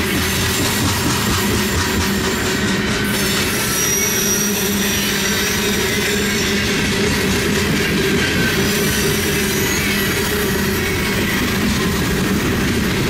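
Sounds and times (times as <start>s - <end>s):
wheels squealing against rail: 0.0s - 13.0s.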